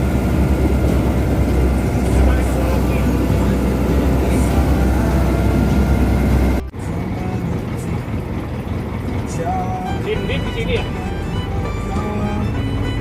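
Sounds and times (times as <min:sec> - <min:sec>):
thin engine-like sound: 0:00.0 - 0:10.7
engine low rumble: 0:00.0 - 0:13.0.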